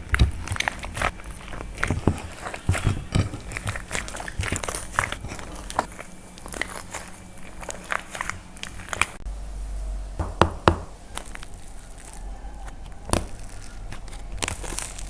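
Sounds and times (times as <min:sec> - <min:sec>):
dried clay cracking by hand: 0:00.0 - 0:09.2, 0:10.8 - 0:15.0.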